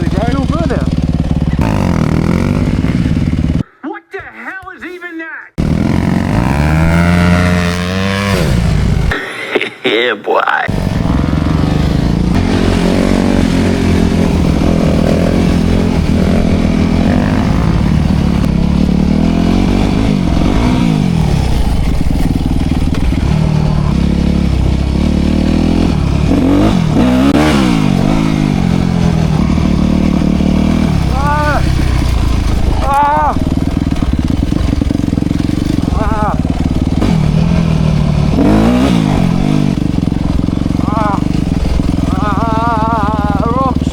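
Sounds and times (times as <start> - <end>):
dirt bike engine revving: 0.0 - 3.6, 5.6 - 9.3, 10.7 - 43.9.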